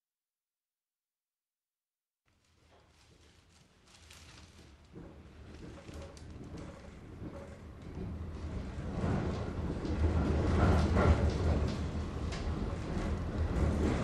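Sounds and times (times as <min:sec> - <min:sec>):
faint clicks and rattles: 0:02.4 - 0:14.0.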